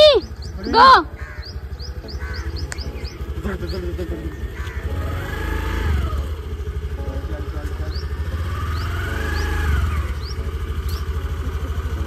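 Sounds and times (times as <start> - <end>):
scooter engine running: 0.0 - 12.0
small birds chirping: 0.0 - 12.0.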